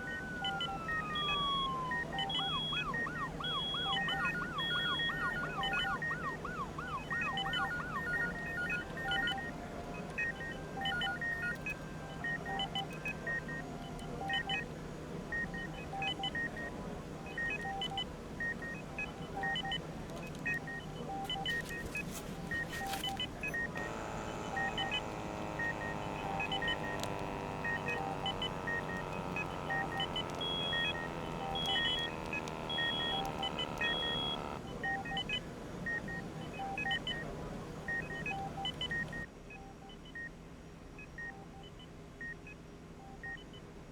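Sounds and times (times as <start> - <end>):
medical equipment beeping: 0.0 - 14.6, 17.3 - 37.3, 37.9 - 39.3.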